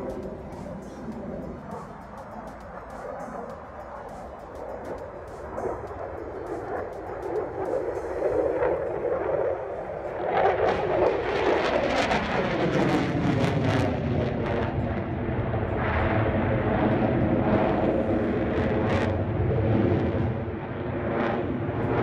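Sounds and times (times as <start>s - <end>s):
jet engine roar overhead: 0.0s - 22.0s.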